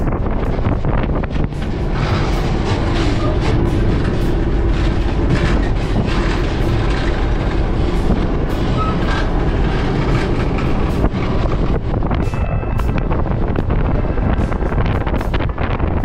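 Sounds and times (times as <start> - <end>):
train wagons rumbling: 0.0 - 16.0
train wheels clicking over rails: 0.0 - 16.0.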